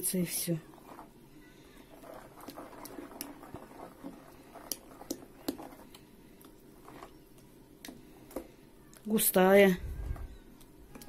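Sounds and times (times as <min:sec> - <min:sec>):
wet squelching stirring: 0:00.0 - 0:11.0.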